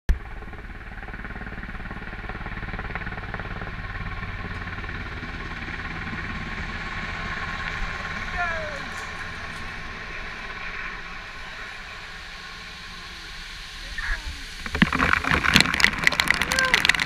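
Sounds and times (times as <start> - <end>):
helicopter rotor beating: 0.1 - 17.0.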